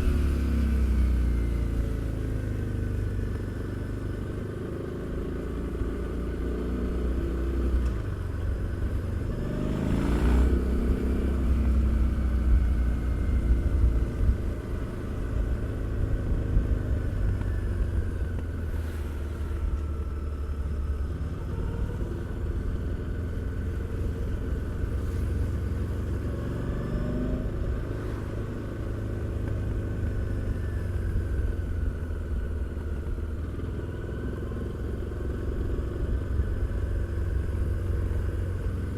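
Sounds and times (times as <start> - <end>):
motorcycle engine revving: 3.8 - 38.9.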